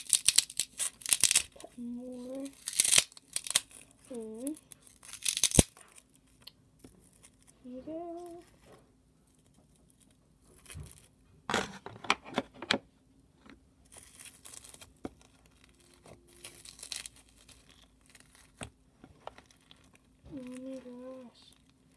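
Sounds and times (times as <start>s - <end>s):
crinkling tearing rustles: 0.0s - 11.2s, 13.8s - 21.9s.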